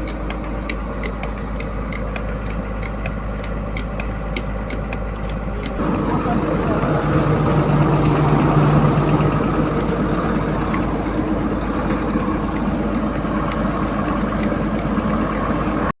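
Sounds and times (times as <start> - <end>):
excavator diesel engine idling: 0.0 - 16.0.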